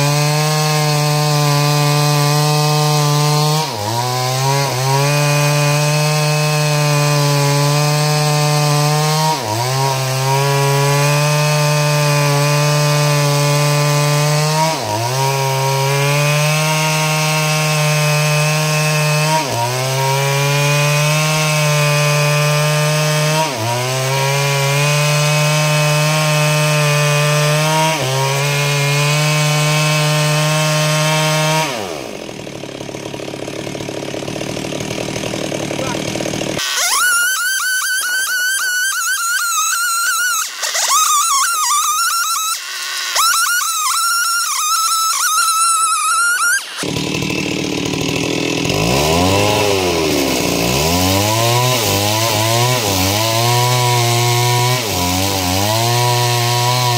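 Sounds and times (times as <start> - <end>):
chainsaw cutting through log: 0.0 - 56.9.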